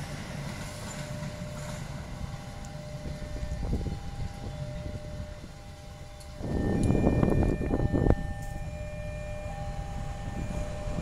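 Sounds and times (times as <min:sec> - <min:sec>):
passenger train rumble: 0:00.0 - 0:11.0.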